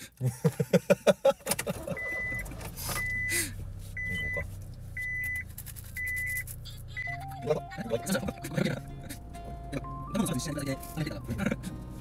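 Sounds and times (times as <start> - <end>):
low car hum: 0.1 - 12.0
car warning chime beeping: 1.8 - 11.9.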